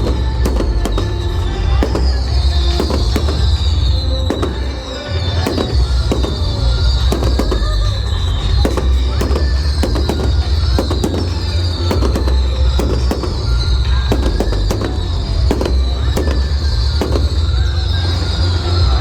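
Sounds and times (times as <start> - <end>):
fireworks bangs and crackles: 0.0 - 19.0
heavy low rumble: 0.0 - 19.0
music: 0.0 - 19.0.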